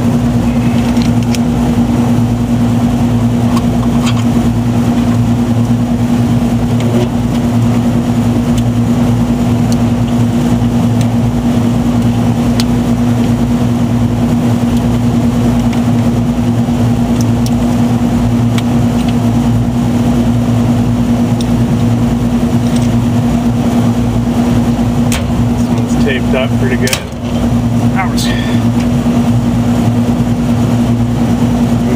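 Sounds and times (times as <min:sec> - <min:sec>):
deep machine hum: 0:00.0 - 0:31.9.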